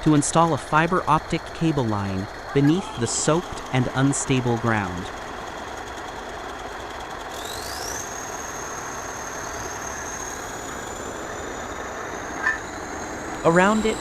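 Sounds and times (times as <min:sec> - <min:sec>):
heavy machine engine running: 0:00.0 - 0:14.0
high whine: 0:00.0 - 0:14.0.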